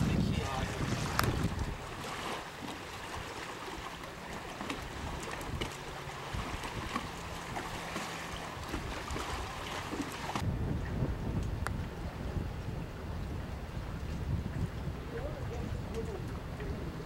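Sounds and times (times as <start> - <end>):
water and wind noise: 0.0 - 17.0.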